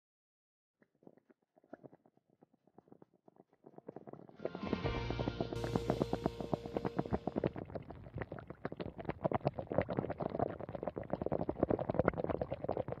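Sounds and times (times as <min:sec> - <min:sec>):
stew bubbling in a pot: 0:00.9 - 0:13.0.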